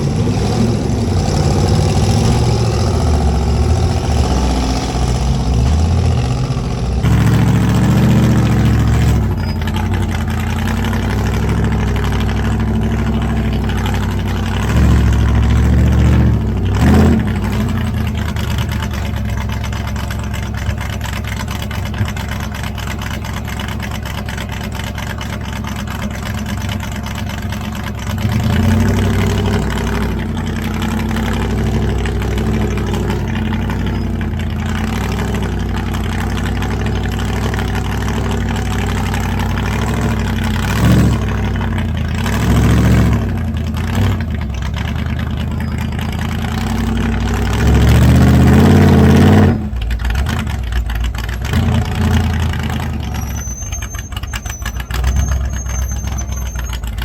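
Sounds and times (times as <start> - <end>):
engine idling with throttle bursts: 0.0 - 57.0.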